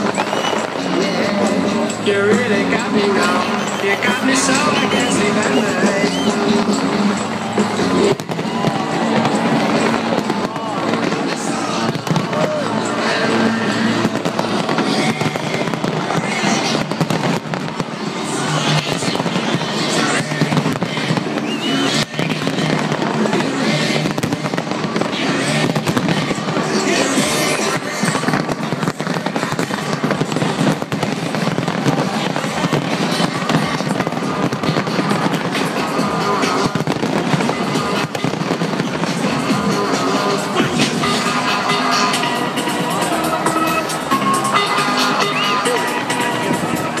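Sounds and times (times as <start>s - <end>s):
crowd voices: 0.0s - 47.0s
fireworks bangs and crackles: 0.0s - 47.0s
music over loudspeakers: 0.0s - 47.0s.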